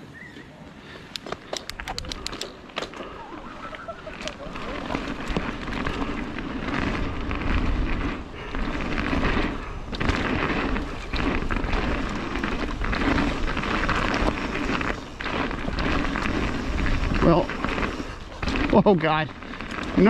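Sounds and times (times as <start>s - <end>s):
bike tyres rolling on dirt: 0.0s - 20.0s.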